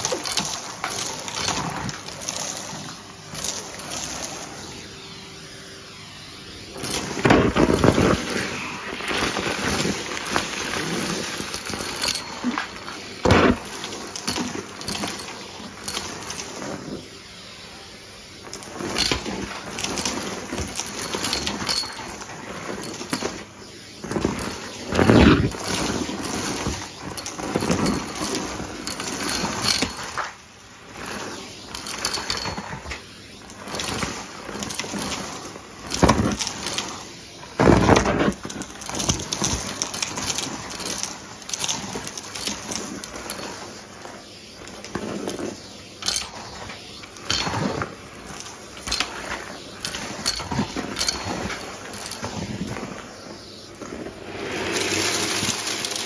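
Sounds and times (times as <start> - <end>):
debris rattling in hose: 0.0 - 5.2, 6.6 - 56.0
vacuum cleaner running: 0.0 - 56.0.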